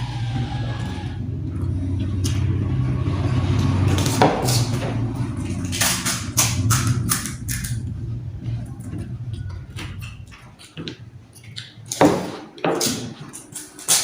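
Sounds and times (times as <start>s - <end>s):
low hum: 0.0s - 13.8s.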